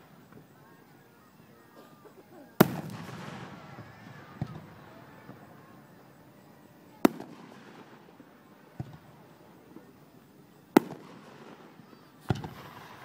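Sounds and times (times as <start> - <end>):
fireworks booming: 1.9 - 13.0.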